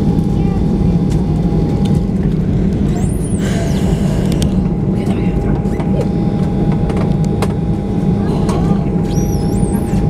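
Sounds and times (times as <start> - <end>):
aircraft cabin hum: 0.0 - 10.0
thin steady whine: 0.0 - 10.0.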